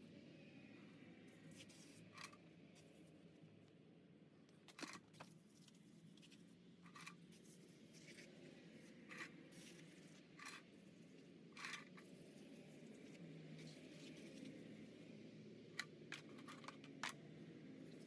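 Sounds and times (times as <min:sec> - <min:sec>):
low steady background noise: 0:00.0 - 0:18.0.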